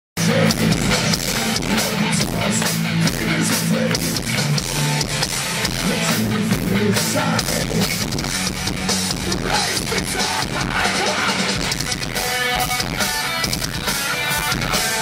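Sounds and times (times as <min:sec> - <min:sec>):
live rock band playing: 0:00.2 - 0:15.0.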